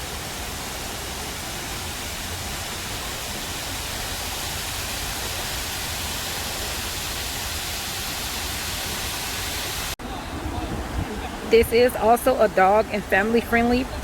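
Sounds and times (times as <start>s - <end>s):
fountain water cascading: 0.0s - 14.0s.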